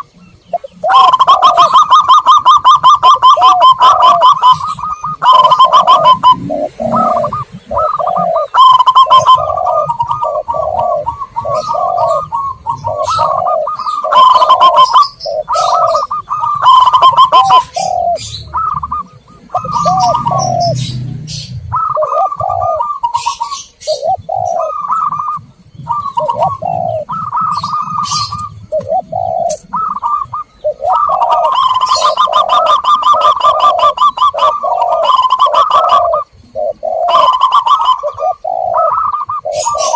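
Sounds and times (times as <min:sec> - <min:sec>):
doves cooing: 0:00.0 - 0:39.9
high bird chirps: 0:00.0 - 0:39.9.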